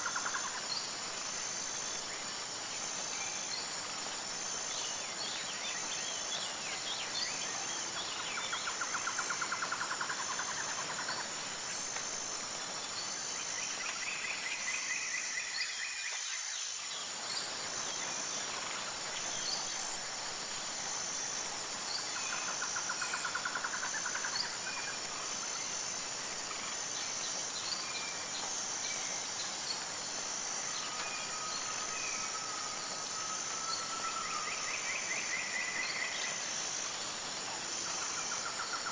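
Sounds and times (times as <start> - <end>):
insect chorus: 0.0 - 38.9.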